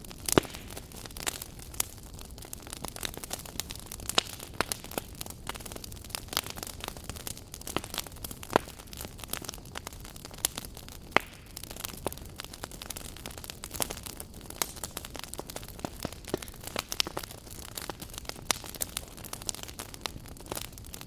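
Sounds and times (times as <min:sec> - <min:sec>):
hiss and rumble of flames: 0:00.0 - 0:21.0
wood fire crackling and popping: 0:00.0 - 0:21.0.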